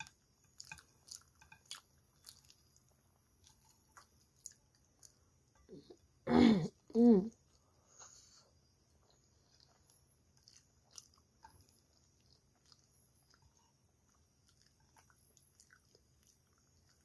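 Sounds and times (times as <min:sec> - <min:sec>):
faint chewing: 0:00.0 - 0:06.2, 0:07.3 - 0:17.0.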